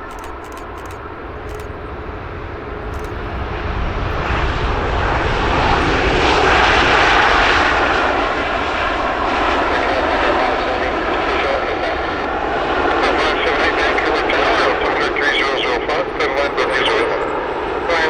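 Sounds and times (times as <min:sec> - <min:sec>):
airliner engines passing: 0:00.0 - 0:18.0.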